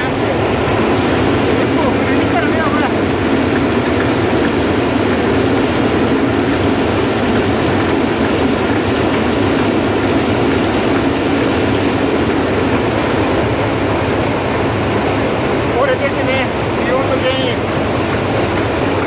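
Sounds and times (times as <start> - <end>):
rice huller running: 0.0 - 19.0.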